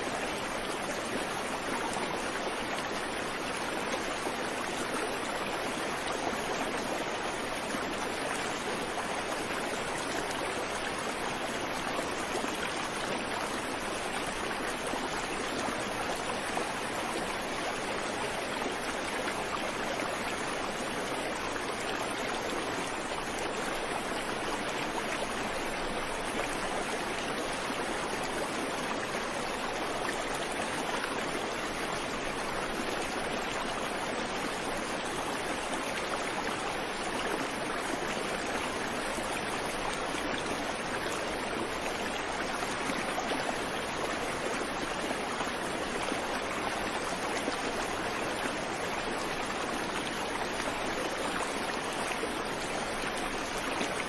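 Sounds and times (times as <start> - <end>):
water flowing over rocks: 0.0 - 54.0.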